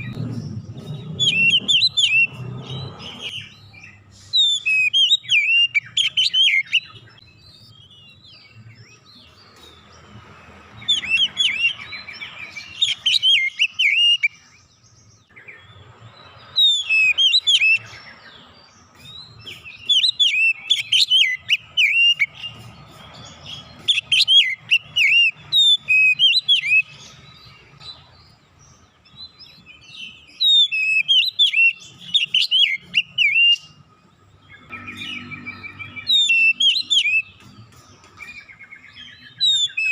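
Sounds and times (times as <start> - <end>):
bird singing whistled phrases: 0.0 - 8.6, 10.8 - 14.7, 16.6 - 18.3, 19.0 - 28.0, 29.2 - 33.8, 34.5 - 37.6, 38.2 - 39.9.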